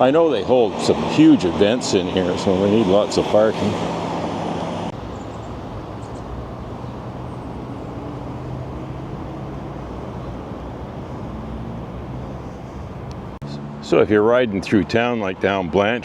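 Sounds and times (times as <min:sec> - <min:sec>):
faint engine hum: 0:00.0 - 0:16.0
traffic rumble: 0:00.0 - 0:16.0.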